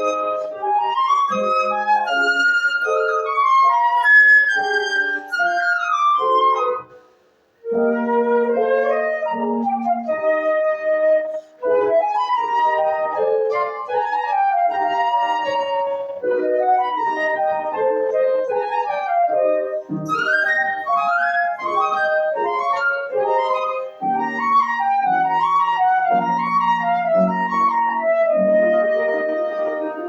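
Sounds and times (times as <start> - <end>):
flute playing slow melody: 0.0 - 30.0
piano accompaniment: 0.0 - 30.0.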